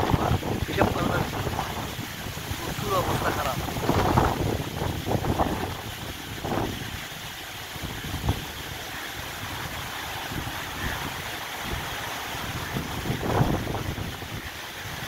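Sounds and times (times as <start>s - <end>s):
branches and leaves thrashing: 0.0s - 15.0s
strong wind through trees: 0.0s - 15.0s
wind buffeting microphone: 0.0s - 15.0s.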